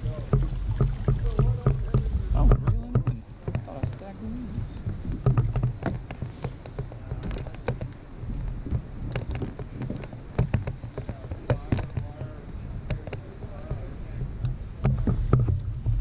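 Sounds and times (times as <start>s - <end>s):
light taps and knocks: 0.0s - 16.0s
low steady rumble: 0.0s - 16.0s.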